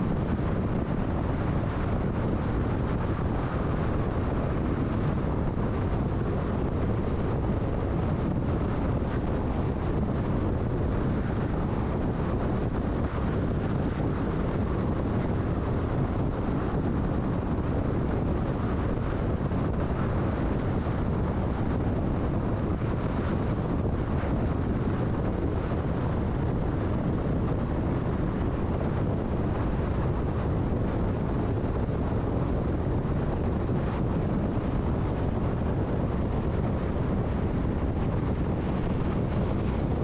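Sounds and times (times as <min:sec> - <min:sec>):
tyre and wind noise: 0:00.0 - 0:40.0.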